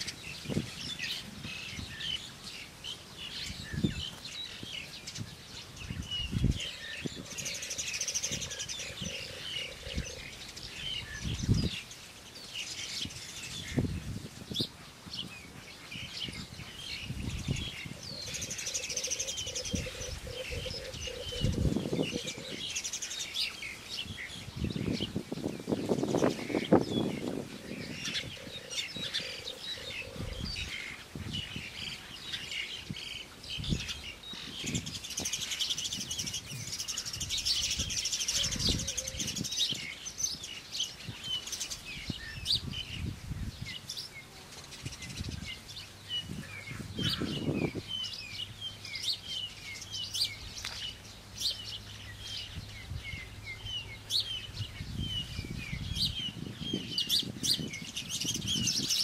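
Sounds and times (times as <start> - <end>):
forest birds chirping: 0.0 - 59.0.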